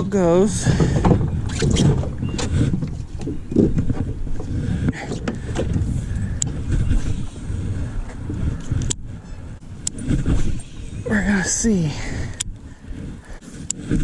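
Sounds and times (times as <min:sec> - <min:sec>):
steady low rumble: 0:00.0 - 0:14.0
gear knocking and clicking in kayak: 0:00.5 - 0:14.0.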